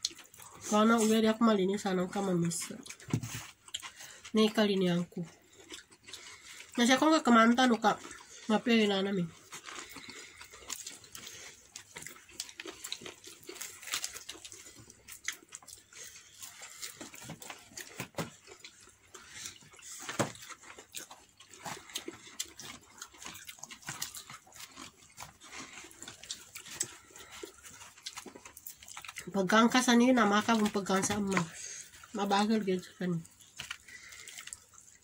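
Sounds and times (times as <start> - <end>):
chewing: 0.0 - 35.0
crunching fried chicken: 0.0 - 35.0.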